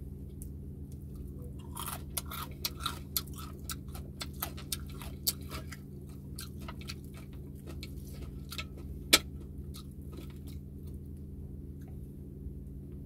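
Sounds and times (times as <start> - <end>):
steady low hum: 0.0 - 13.0
crispy pork skin crunching: 0.4 - 11.3.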